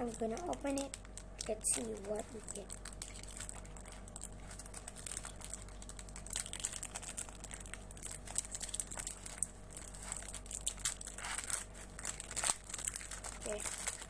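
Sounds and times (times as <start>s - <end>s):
foil packet crinkling: 0.0s - 14.0s.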